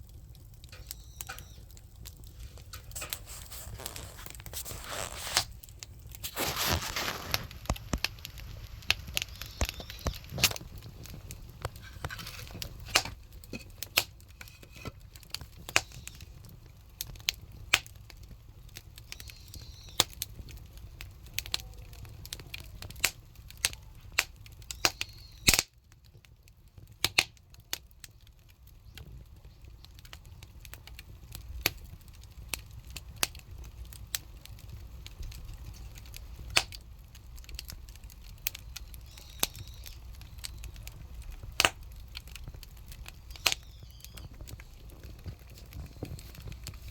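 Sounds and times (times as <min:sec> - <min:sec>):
fire rumbling: 0:00.0 - 0:46.9
firewood crackling and popping: 0:00.0 - 0:46.9.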